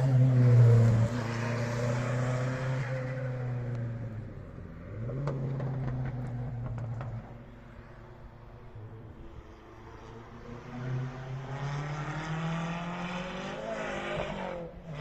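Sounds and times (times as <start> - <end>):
rally car engine passing by: 0.0 - 7.4, 9.5 - 15.0.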